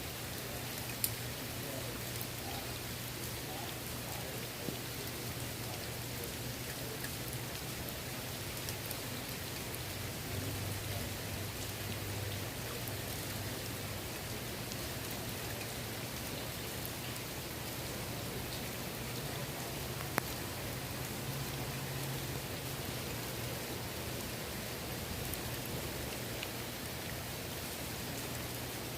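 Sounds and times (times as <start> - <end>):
rain falling on a pool: 0.0 - 28.9.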